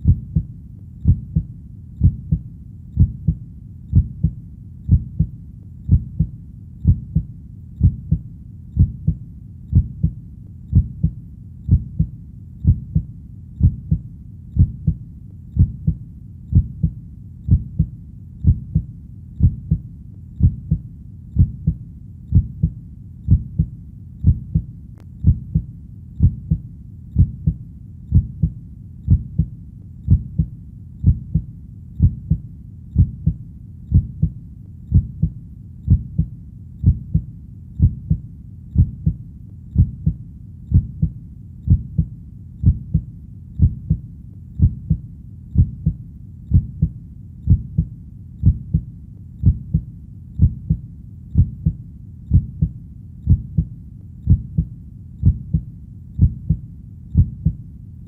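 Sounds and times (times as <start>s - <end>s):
heartbeat thumps: 0.0s - 15.0s, 15.6s - 38.2s, 38.8s - 57.6s.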